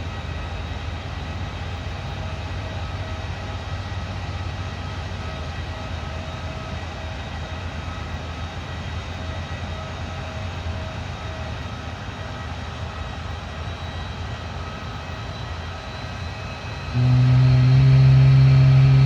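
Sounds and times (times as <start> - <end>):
distant jet engines: 0.0 - 19.0.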